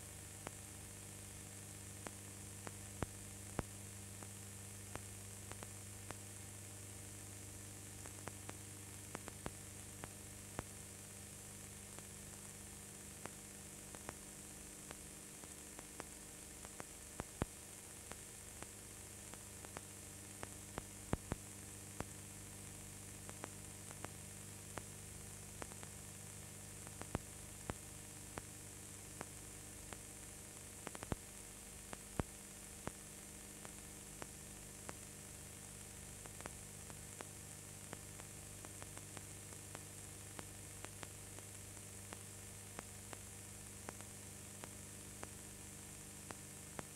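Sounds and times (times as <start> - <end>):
electrical hum and hiss: 0.0 - 46.9.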